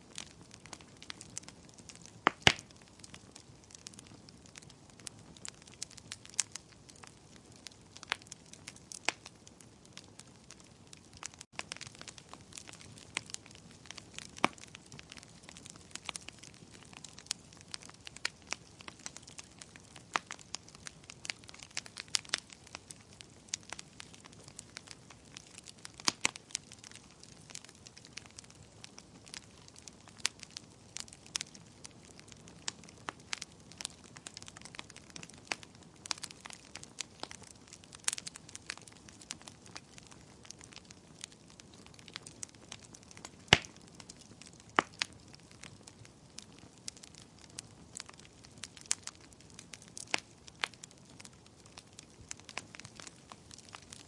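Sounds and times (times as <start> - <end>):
burning wood popping and snapping: 0.0 - 54.0.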